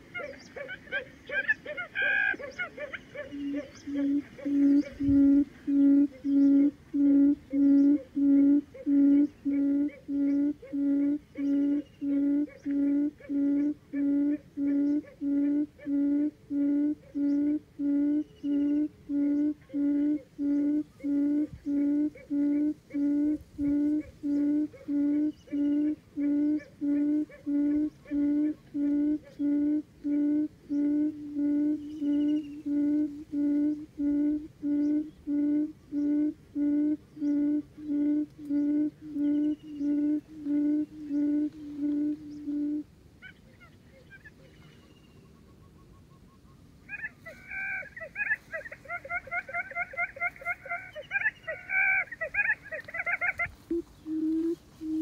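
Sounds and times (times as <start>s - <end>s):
bird low hooting call: 0.0s - 55.0s
faint bird chirps: 0.0s - 55.0s.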